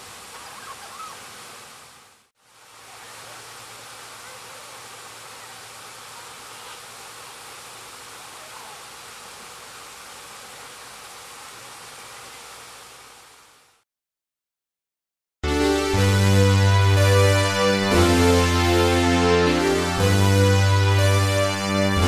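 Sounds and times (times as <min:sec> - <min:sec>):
outdoor ambience hiss: 0:00.0 - 0:13.8, 0:16.8 - 0:22.0.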